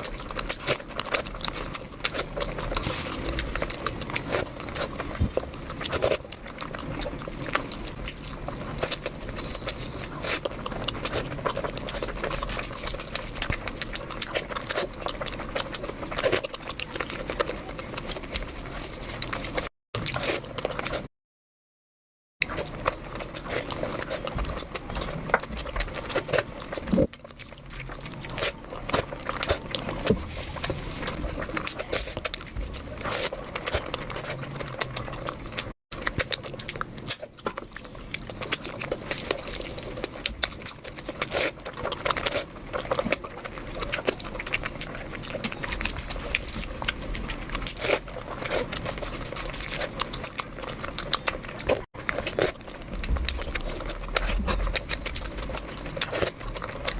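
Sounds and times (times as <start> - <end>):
close chewing and mouth noises: 0.0 - 21.1, 22.4 - 56.9.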